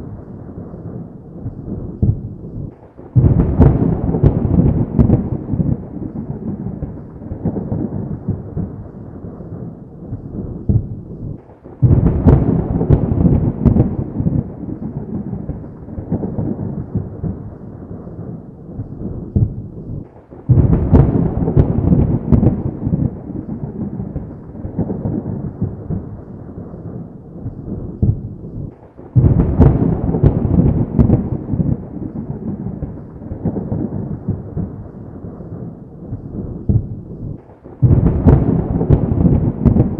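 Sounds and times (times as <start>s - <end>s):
thunderclaps rolling into rumble: 0.0s - 39.9s.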